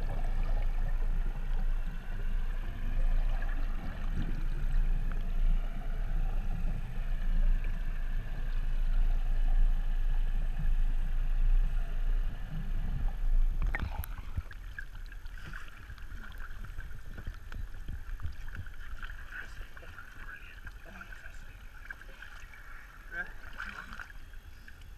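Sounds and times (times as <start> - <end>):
muffled underwater rumble: 0.0 - 24.9
water splashing and lapping: 0.0 - 24.9.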